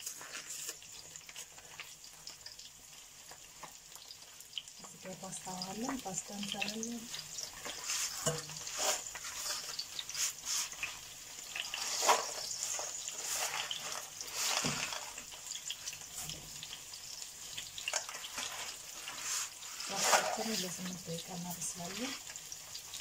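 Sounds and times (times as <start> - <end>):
pot of water boiling: 0.0 - 23.0
vegetables sizzling in a frying pan: 0.0 - 23.0.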